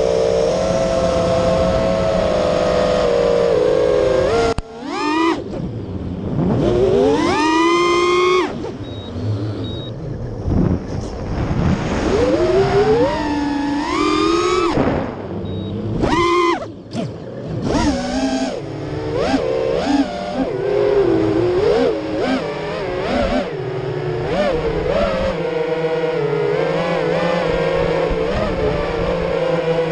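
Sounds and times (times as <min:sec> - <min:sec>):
quadcopter motors whining: 0:00.0 - 0:11.3, 0:12.0 - 0:29.9.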